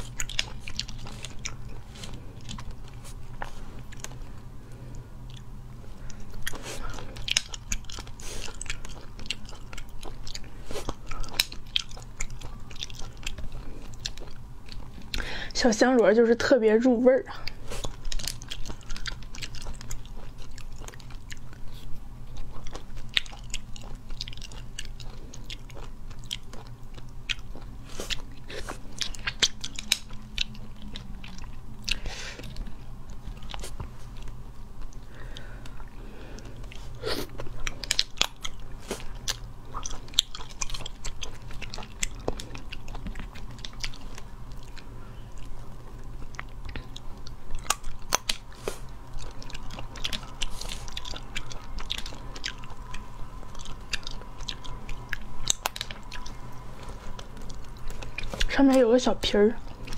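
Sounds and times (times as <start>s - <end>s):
chewing: 0.0s - 59.9s.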